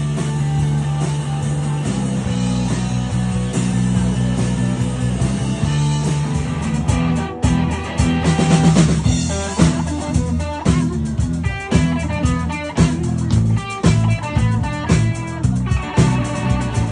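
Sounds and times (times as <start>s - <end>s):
bass line: 0.0s - 16.9s
drums: 0.0s - 16.9s
electric guitar: 0.0s - 16.9s.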